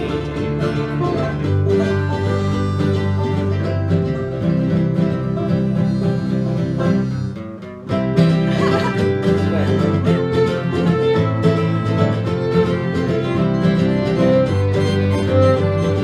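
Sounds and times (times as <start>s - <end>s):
acoustic guitar picking: 0.0s - 16.0s
banjos picking: 0.0s - 16.0s
fiddle melody: 0.0s - 16.0s.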